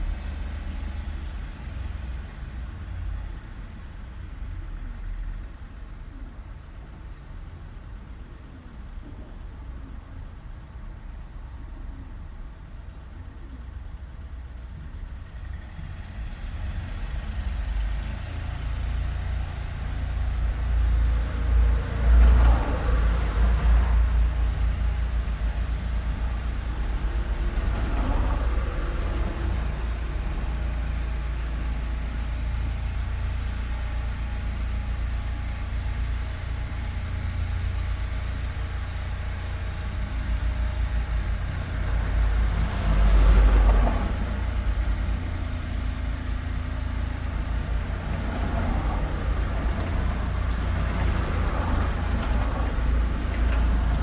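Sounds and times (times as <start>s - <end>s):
low rumble of traffic: 0.0s - 54.0s.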